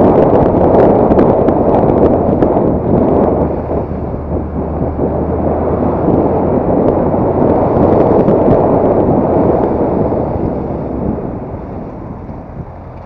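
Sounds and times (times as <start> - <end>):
motorcycle engine running: 0.0 - 13.0
steady low hum: 0.0 - 13.0
wind rushing over microphone: 0.0 - 13.0.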